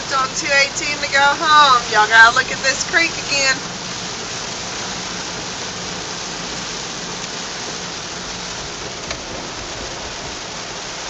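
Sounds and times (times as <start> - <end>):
rain hissing: 0.0 - 11.0
running water: 0.0 - 11.0.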